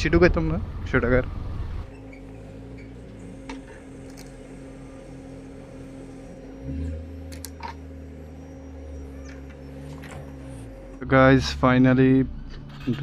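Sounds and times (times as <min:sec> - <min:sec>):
deeper hum: 0:00.0 - 0:13.0
motor humming: 0:01.5 - 0:12.7.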